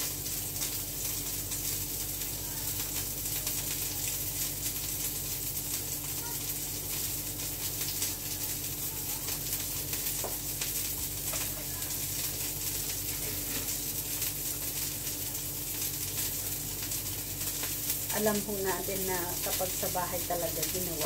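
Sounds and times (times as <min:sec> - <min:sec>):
food sizzling: 0:00.0 - 0:21.0.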